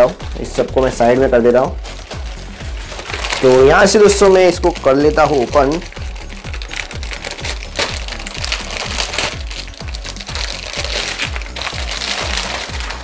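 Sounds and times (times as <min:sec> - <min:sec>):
background music with beat: 0:00.0 - 0:13.0
plastic wrap crinkling: 0:00.0 - 0:13.0.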